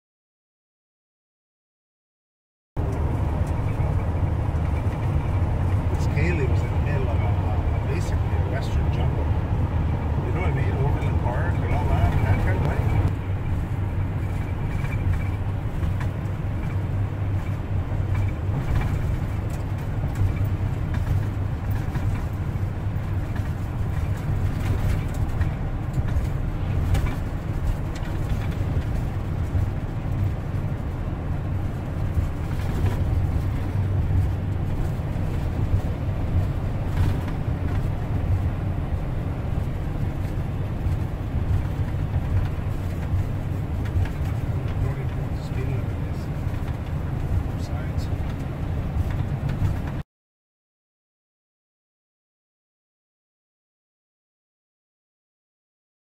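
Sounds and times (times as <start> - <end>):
car cabin road noise: 2.8 - 50.0.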